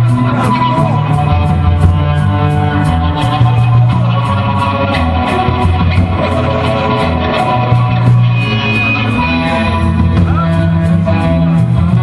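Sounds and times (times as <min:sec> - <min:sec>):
bowed electric guitar tones: 0:00.0 - 0:12.0
steady bass line: 0:00.0 - 0:12.0.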